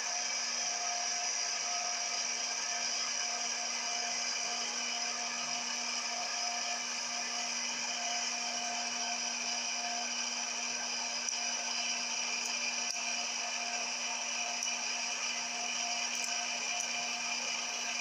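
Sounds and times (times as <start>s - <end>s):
popcorn maker fan whirring: 0.0s - 18.0s.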